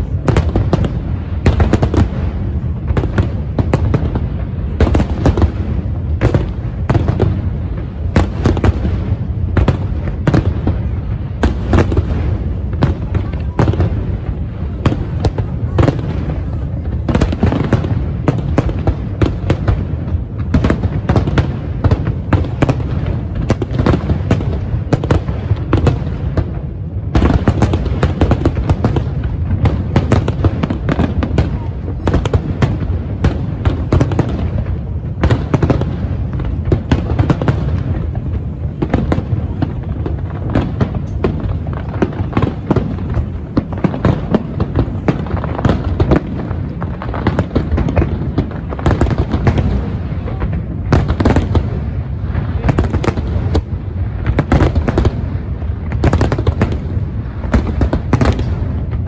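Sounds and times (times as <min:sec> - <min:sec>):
fireworks bursting and banging: 0:00.0 - 0:59.0.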